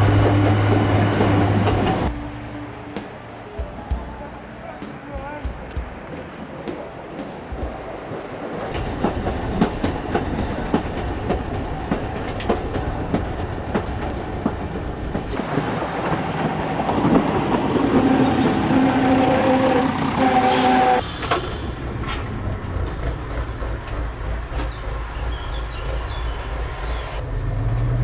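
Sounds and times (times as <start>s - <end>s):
railcar wheels clicking over joints: 5.1s - 27.7s.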